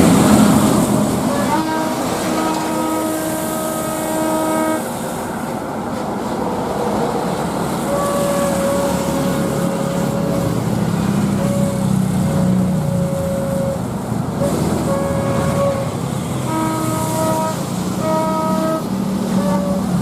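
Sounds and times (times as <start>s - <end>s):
whining tones: 0.0s - 6.0s, 7.3s - 20.0s
jet engines roaring: 0.0s - 20.0s.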